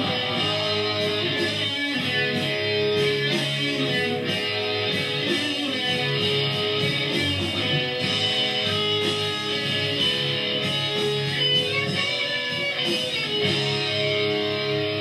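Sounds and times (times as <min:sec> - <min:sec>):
instrumental rock music: 0:00.0 - 0:15.0.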